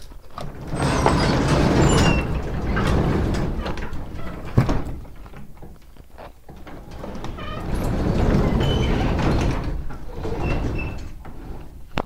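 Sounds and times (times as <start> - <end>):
door squealing: 0.4 - 5.4, 6.5 - 11.7
metal roll-up door rattling: 0.4 - 11.9.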